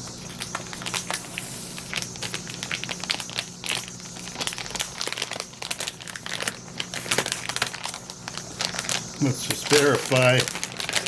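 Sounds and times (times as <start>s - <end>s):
plastic crinkling: 0.0s - 11.0s.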